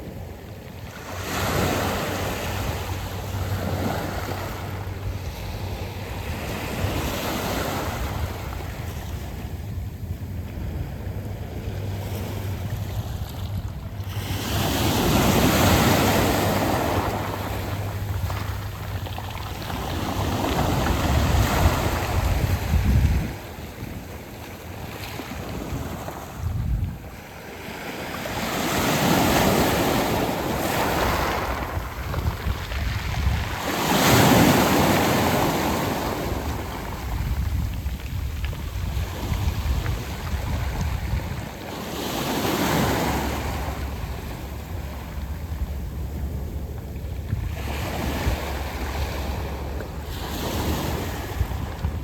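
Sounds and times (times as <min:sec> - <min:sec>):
surf over pebbles: 0:00.0 - 0:52.0.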